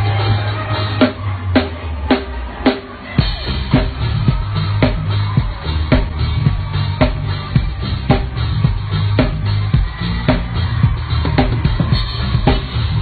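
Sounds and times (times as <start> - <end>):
drum kit groove: 0.0 - 13.0
live pop band playing: 0.0 - 13.0.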